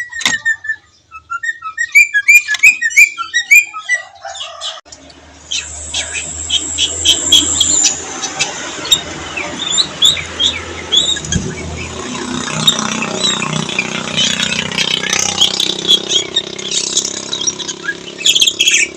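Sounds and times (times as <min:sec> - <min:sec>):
bird chirping and whistling: 0:00.0 - 0:04.8, 0:05.4 - 0:18.9.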